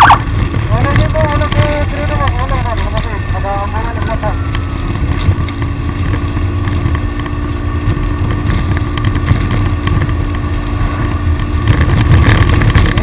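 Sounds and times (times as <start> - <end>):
vehicle engine drone: 0.0 - 13.0
wind rumble on microphone: 0.0 - 13.0.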